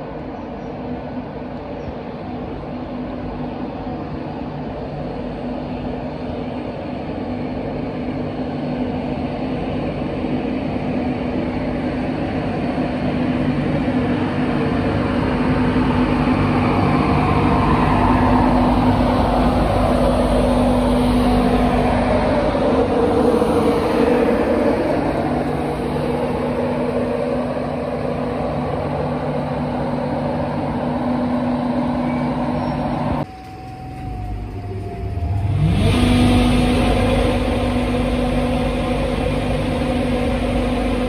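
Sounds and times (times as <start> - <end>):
electric train hum: 0.0 - 41.0.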